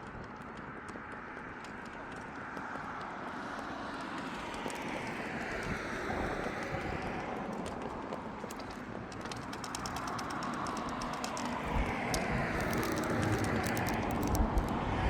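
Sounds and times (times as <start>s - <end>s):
vehicle tyres on asphalt: 0.0s - 15.0s.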